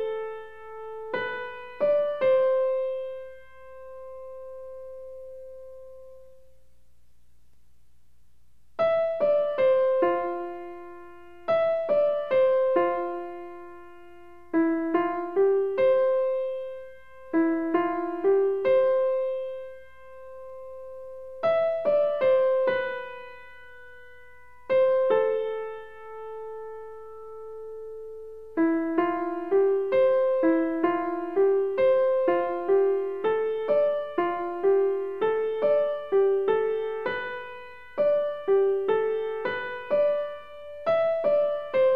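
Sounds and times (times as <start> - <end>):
piano music: 0.0 - 6.5, 8.8 - 41.9.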